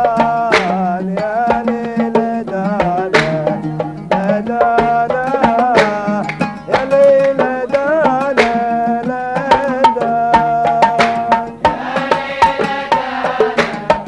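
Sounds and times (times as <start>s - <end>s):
hand drums beating: 0.0s - 14.0s
man singing ornamented melody: 0.0s - 14.0s
oud playing: 0.0s - 14.0s.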